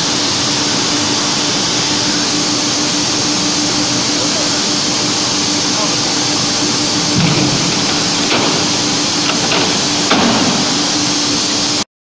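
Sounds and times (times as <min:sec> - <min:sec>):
loud machinery noise: 0:00.0 - 0:11.8.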